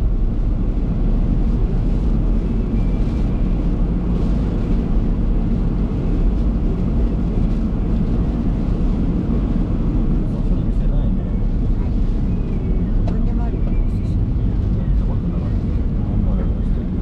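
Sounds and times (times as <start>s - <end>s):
car interior road and engine noise: 0.0s - 17.0s.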